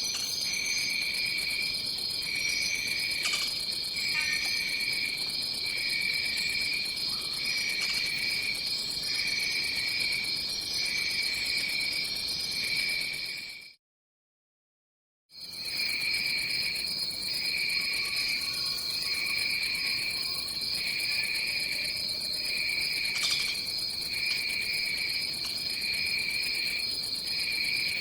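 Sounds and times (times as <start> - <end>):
high insect chirps: 0.0 - 12.7, 15.5 - 28.0
pulsing lower insect call: 0.0 - 13.5, 15.4 - 28.0.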